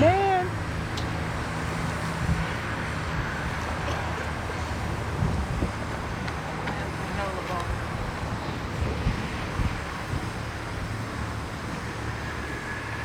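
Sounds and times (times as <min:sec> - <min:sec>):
wind rushing across microphone: 0:00.0 - 0:13.0.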